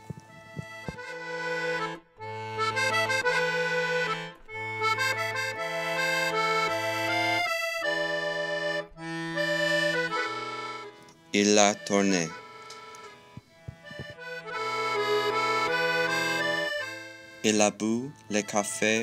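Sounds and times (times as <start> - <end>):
accordion music: 0.0 - 19.0.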